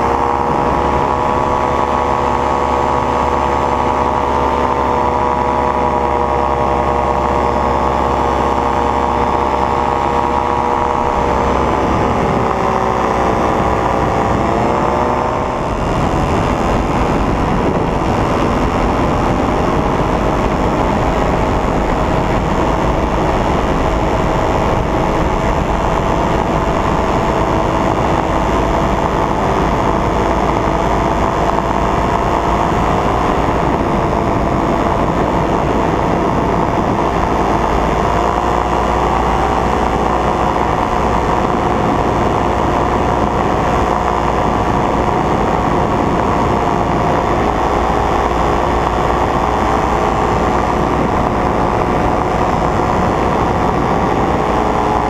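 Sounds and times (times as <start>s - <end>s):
paramotor engine droning: 0.0s - 55.0s.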